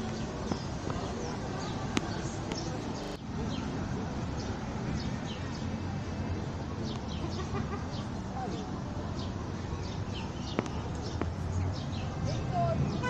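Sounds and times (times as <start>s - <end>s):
distant voices: 0.0s - 13.0s
small birds chirping: 0.0s - 13.0s
traffic hum: 0.0s - 13.0s.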